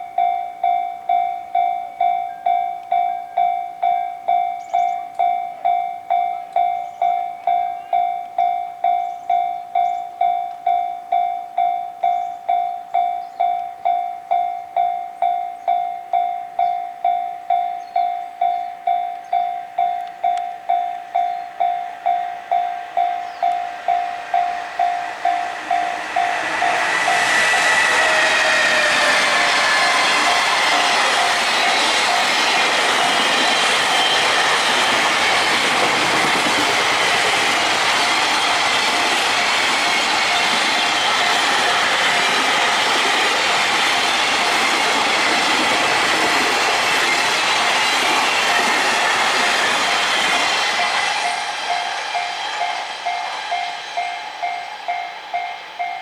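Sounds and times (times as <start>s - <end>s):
level-crossing bell ringing: 0.0s - 56.0s
train passing: 0.0s - 56.0s.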